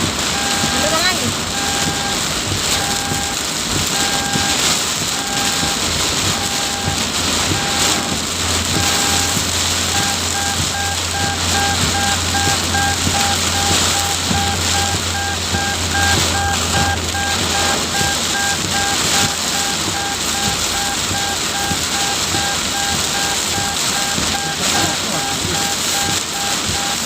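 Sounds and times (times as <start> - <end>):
heavy rain pouring: 0.0 - 27.0
rapid electronic beep: 0.3 - 27.0.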